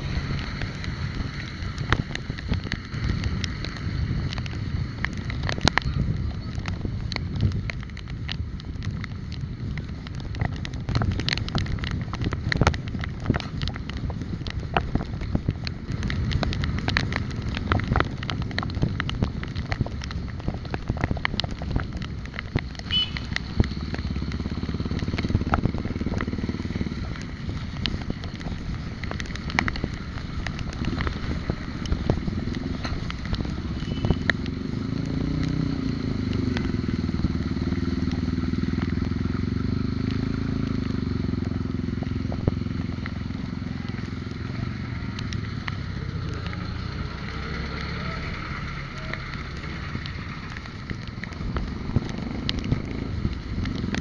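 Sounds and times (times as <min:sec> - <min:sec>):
motorcycle engine: 0:00.0 - 0:54.0
road and wind rumble: 0:00.0 - 0:54.0.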